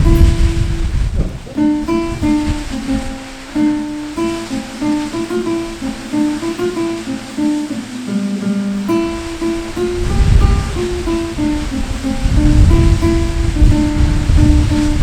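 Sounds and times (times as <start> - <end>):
acoustic guitar slow melody: 0.0 - 15.0
faint rushing water: 0.0 - 15.0.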